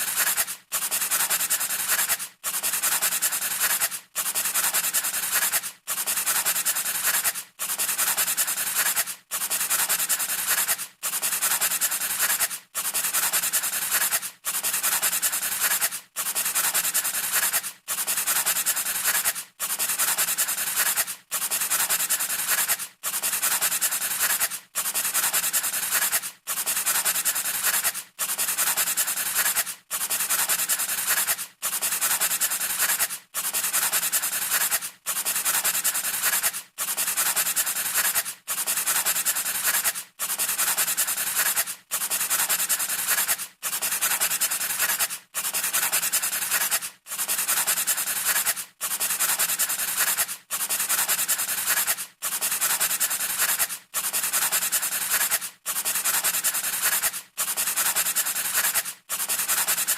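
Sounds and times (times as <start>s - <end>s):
pencil scratching on paper: 0.0s - 59.9s.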